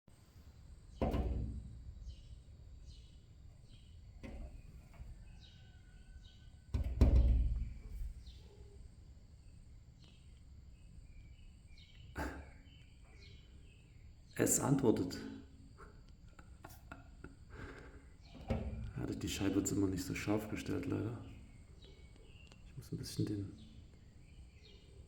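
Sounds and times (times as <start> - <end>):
songbird chirping: 0.2 - 25.0.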